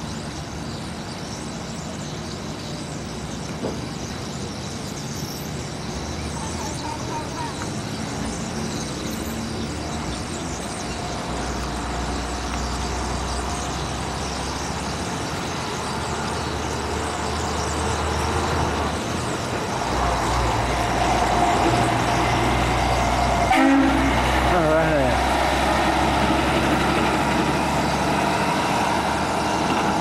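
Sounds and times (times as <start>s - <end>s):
flock of blackbirds calling: 0.0s - 30.0s
road traffic rumble: 0.0s - 30.0s.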